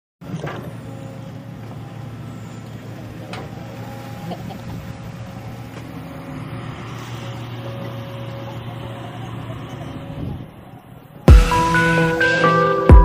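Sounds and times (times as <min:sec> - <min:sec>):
excavator diesel engine running: 0:00.2 - 0:13.0.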